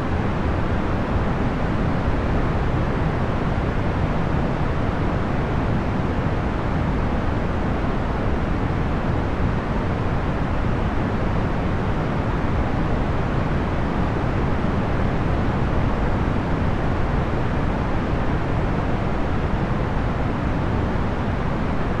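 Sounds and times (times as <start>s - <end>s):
fan rush of air: 0.0s - 22.0s.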